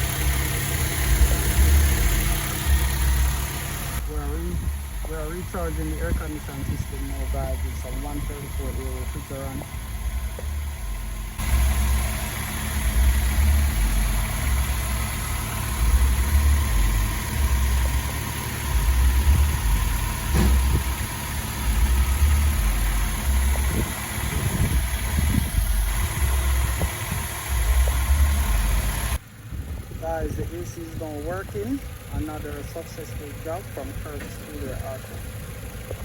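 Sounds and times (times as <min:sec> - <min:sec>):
engine idling with low rumble: 0:00.0 - 0:36.0.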